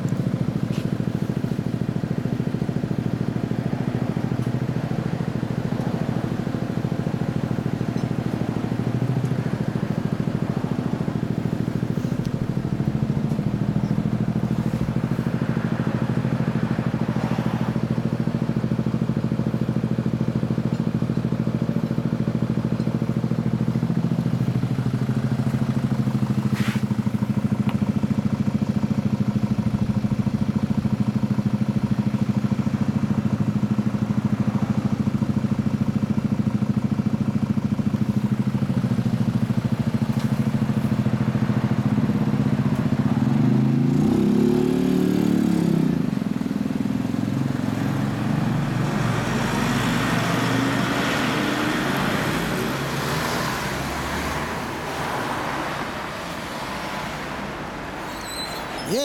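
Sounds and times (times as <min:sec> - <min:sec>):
motorcycle engine idling: 0:00.0 - 0:51.5.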